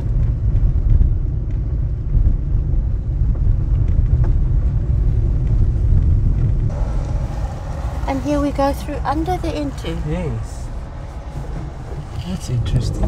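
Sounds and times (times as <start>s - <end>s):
car engine: 0.0s - 13.0s.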